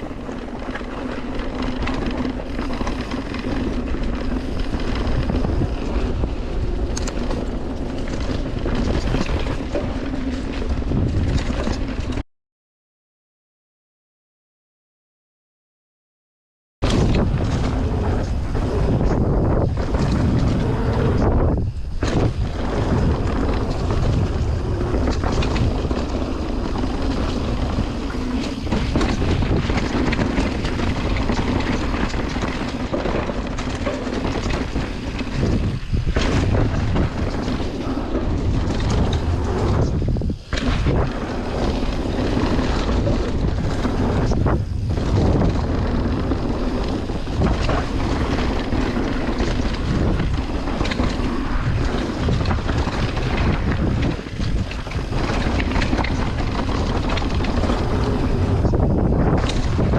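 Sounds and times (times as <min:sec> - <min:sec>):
bike rumbling on trail: 0:00.0 - 0:12.2, 0:16.8 - 0:59.9
wind rushing over microphone: 0:00.0 - 0:12.2, 0:16.8 - 0:59.9.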